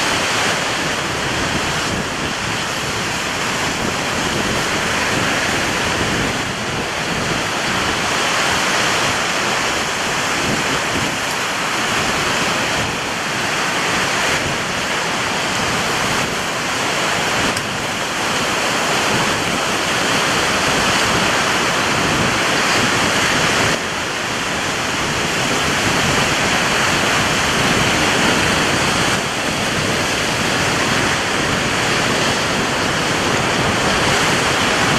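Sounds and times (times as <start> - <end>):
ocean surf breaking: 0.0 - 34.9
wind on microphone: 0.0 - 34.9.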